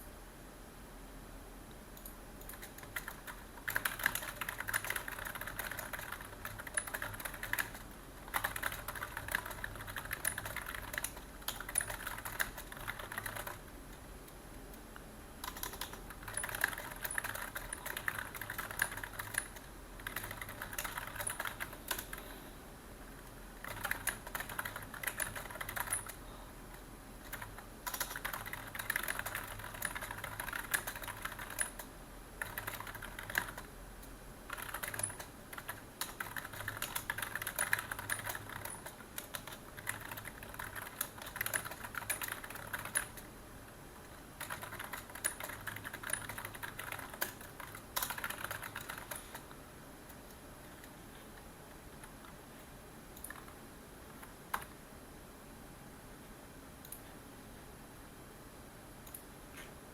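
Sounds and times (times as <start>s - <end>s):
keyboard typing: 2.0s - 14.0s, 15.4s - 22.4s, 23.2s - 33.7s, 34.5s - 43.3s, 44.0s - 52.4s, 53.2s - 54.7s.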